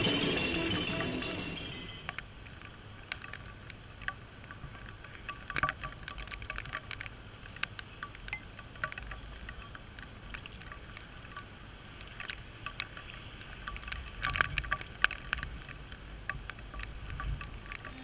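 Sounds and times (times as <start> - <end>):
low wind rumble: 0.0 - 18.0
raindrops ticking on camera housing: 1.2 - 18.0.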